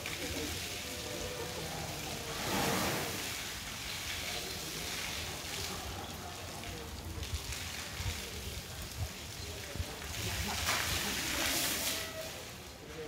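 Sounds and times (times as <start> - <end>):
hose water splashing on concrete: 0.0 - 13.0.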